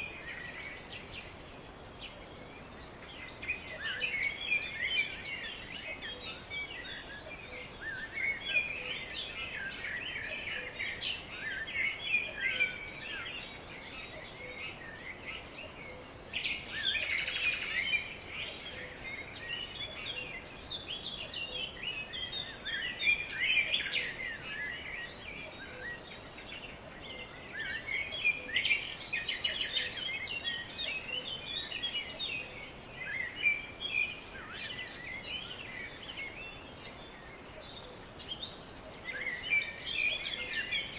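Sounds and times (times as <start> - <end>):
background hiss: 0.0 - 40.9
small birds chirping: 0.0 - 40.9.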